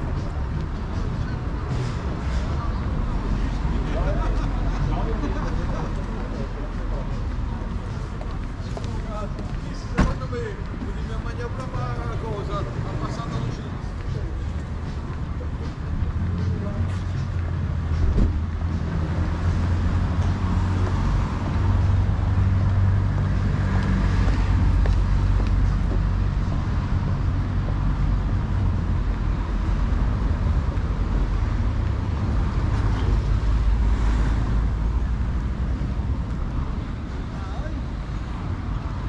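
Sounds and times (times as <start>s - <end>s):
road traffic noise: 0.0s - 39.0s
vehicle engine humming nearby: 0.0s - 39.0s.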